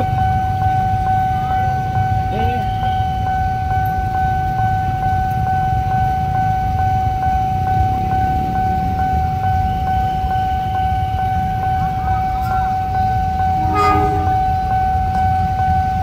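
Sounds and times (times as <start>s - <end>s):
diesel locomotive rumble: 0.0s - 16.0s
steady high tone: 0.0s - 16.0s.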